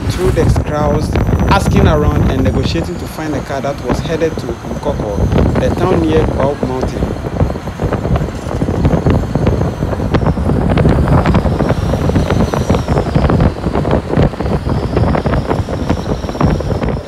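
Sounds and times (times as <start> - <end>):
road and engine noise: 0.0 - 17.0
wind rushing over microphone: 0.0 - 17.0.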